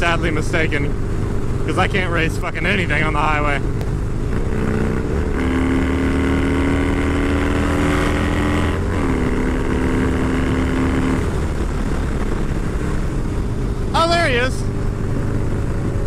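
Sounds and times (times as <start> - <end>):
motorcycle engine at speed: 0.0 - 16.0.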